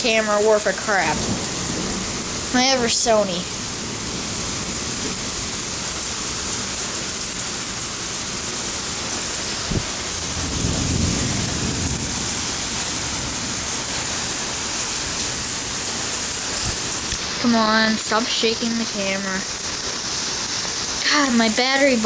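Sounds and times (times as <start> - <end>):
thunder rumbling: 0.0 - 7.7, 9.1 - 19.6
heavy rain pouring: 0.0 - 22.0.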